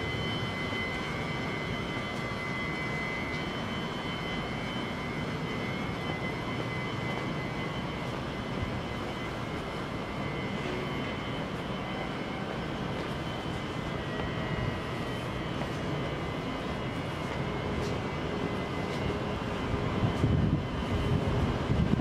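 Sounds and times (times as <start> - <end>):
electric train humming: 0.0 - 22.0
thin high whine: 0.0 - 22.0.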